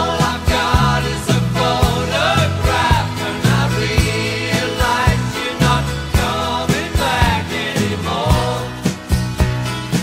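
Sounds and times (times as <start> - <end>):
man singing pop song: 0.0 - 8.9
band playing: 0.0 - 10.0
drums beating: 0.0 - 10.0.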